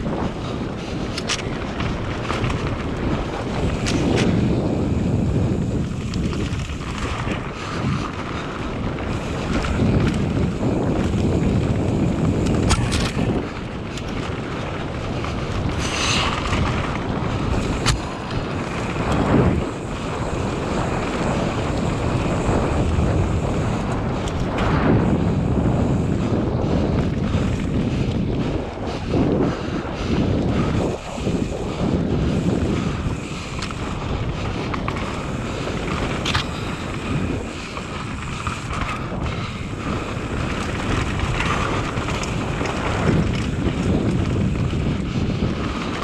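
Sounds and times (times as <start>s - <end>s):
bike knocks and rattles: 0.0s - 46.0s
tyres rumbling over rough ground: 0.0s - 46.0s
wind rushing over microphone: 0.0s - 46.0s.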